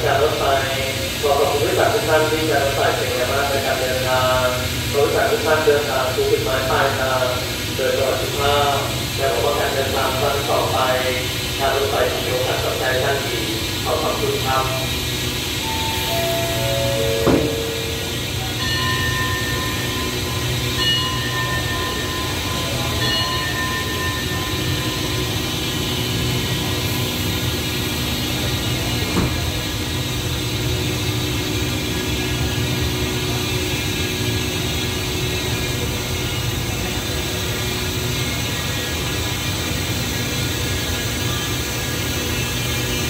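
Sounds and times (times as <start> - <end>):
train machinery humming: 0.0 - 43.0.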